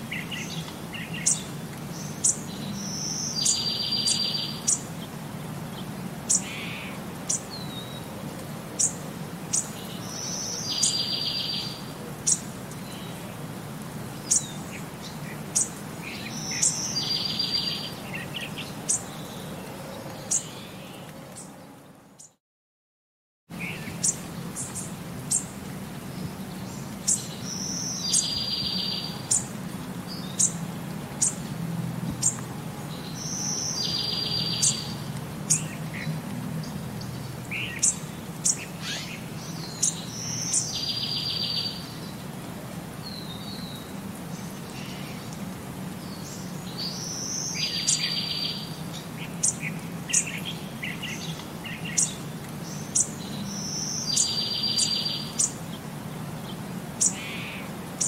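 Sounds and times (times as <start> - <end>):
birds chirping: 0.0 - 13.4, 14.1 - 22.4, 23.5 - 58.0.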